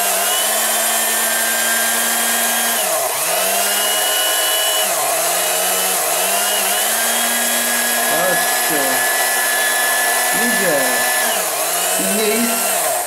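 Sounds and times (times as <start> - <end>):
hand mixer motor whining: 0.0 - 13.0.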